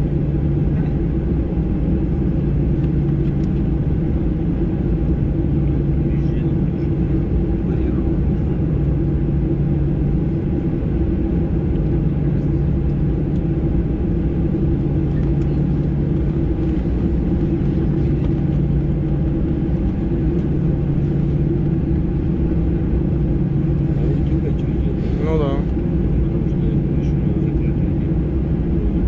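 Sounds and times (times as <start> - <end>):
aircraft cabin engine rumble: 0.0 - 29.0.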